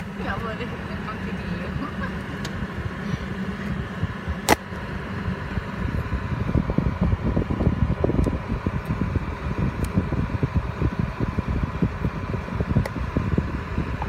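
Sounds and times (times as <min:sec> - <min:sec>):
car air-conditioning fan: 0:00.0 - 0:14.0
low uneven rumble: 0:00.0 - 0:14.0.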